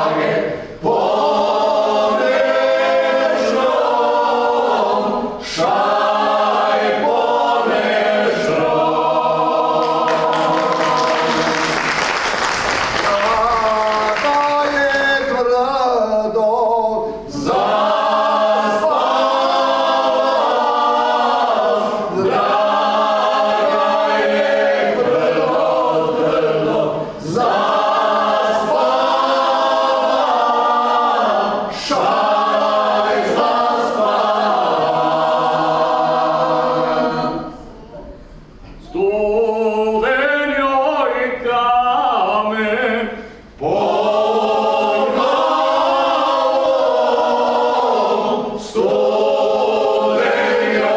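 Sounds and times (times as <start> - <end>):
group singing a cappella: 0.0 - 50.9.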